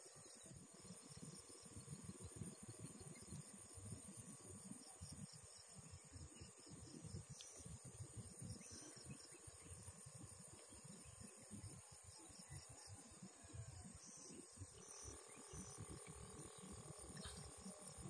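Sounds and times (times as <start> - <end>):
insect chorus buzzing and chirping: 0.0 - 18.0.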